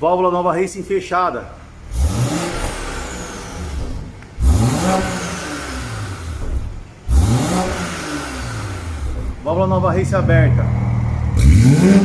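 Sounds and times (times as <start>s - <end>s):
car engine revving: 1.6s - 12.0s.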